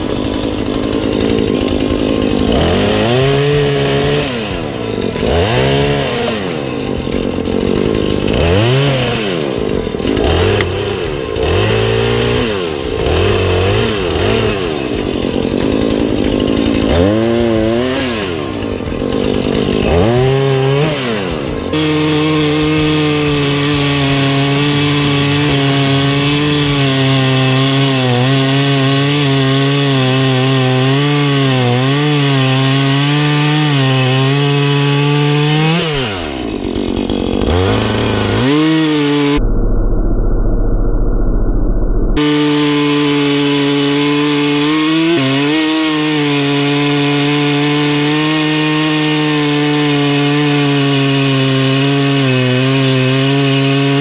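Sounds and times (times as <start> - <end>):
chainsaw cutting log: 0.0 - 39.4, 42.2 - 54.0.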